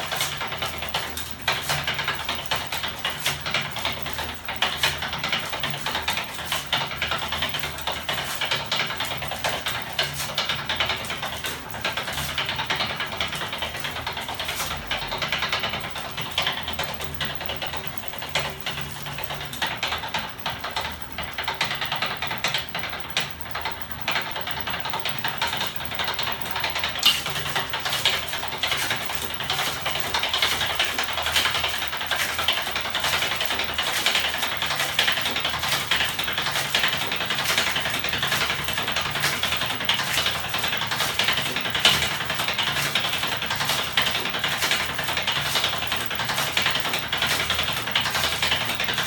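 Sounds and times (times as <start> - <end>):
machine rattling and clattering: 0.0 - 49.0.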